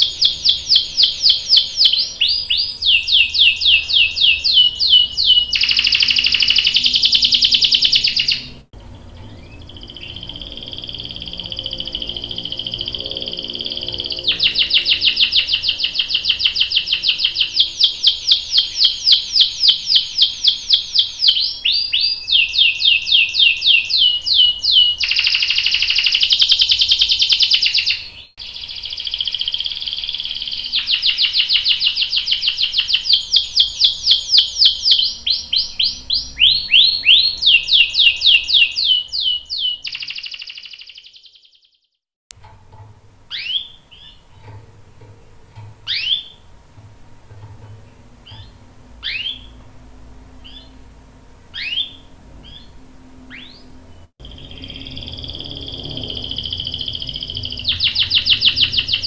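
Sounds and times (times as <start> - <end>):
canary singing trills: 0.0 - 41.9, 43.3 - 46.6, 47.3 - 59.0.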